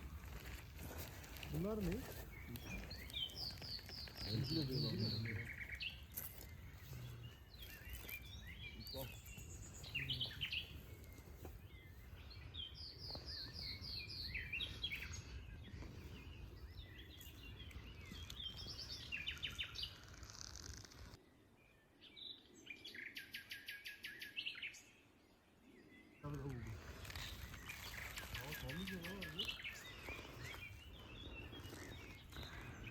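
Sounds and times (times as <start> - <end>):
birds chirping and trilling: 0.0 - 32.9.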